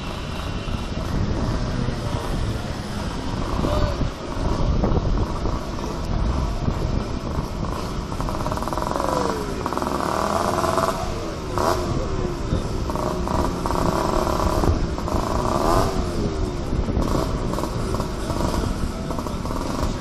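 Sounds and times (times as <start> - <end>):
motorcycles revving and passing: 0.0 - 20.0.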